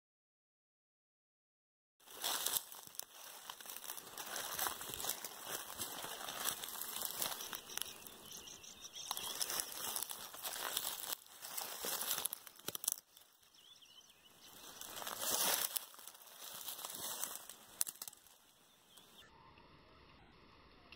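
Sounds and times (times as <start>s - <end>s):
footsteps crunching dry stubble: 2.0s - 19.2s.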